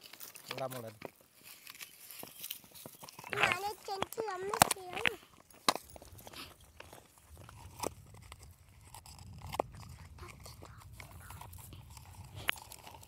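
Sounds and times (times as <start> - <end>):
coconut husk tearing: 0.0 - 13.0.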